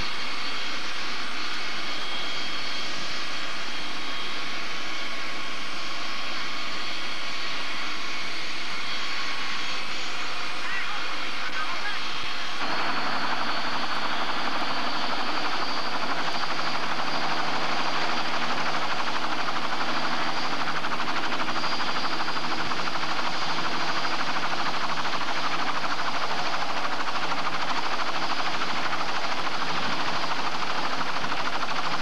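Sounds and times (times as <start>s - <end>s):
helicopter rotor and engine noise: 0.0s - 32.0s
helicopter turbine whine: 0.0s - 32.0s.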